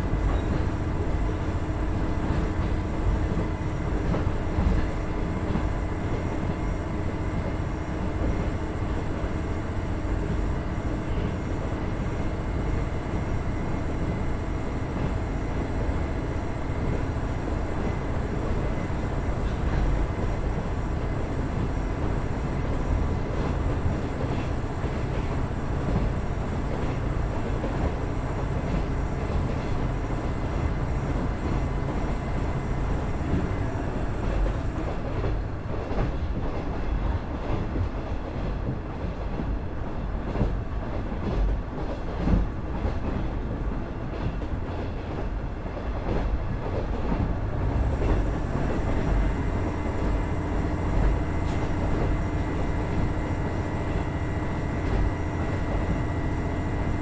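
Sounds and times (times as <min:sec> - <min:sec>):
railcar engine and wheels drone: 0:00.0 - 0:57.0.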